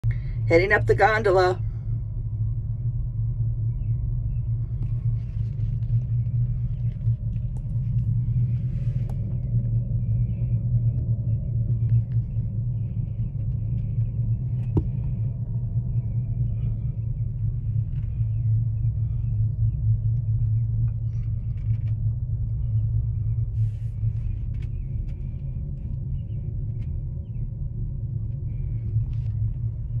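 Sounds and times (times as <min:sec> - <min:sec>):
gondola cabin rumbling: 0:00.0 - 0:30.0.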